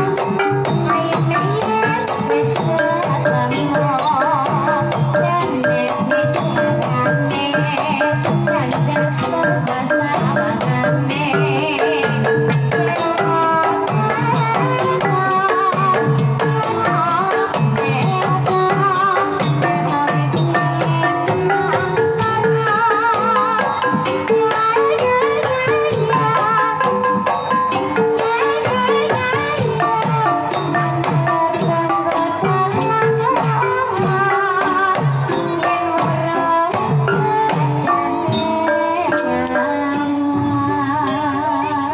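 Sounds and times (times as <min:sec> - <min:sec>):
barrel drum rhythm: 0:00.0 - 0:41.6
woman singing: 0:00.0 - 0:41.9.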